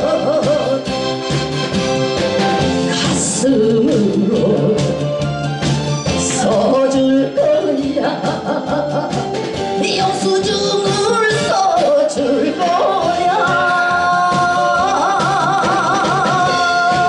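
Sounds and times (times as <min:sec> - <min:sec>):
woman singing into a microphone: 0:00.0 - 0:00.9, 0:02.9 - 0:05.0, 0:06.2 - 0:17.0
backing track music: 0:00.0 - 0:17.0.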